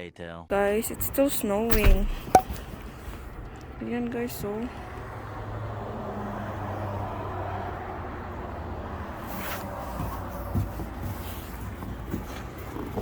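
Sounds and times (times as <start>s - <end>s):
vehicle engine rumbling: 0.5s - 13.0s.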